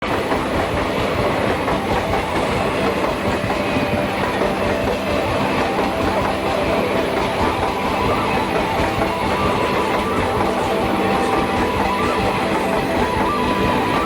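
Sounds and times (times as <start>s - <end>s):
railroad cars rumbling and rattling: 0.0s - 14.0s
wheels clacking over rail joints: 0.0s - 14.0s.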